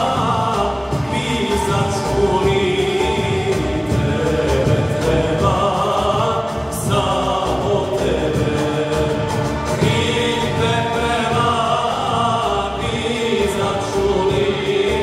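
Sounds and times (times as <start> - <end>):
hand drum beat: 0.0 - 15.0
keyboard: 0.0 - 15.0
long-necked lute: 0.0 - 15.0
men singing together: 0.0 - 15.0.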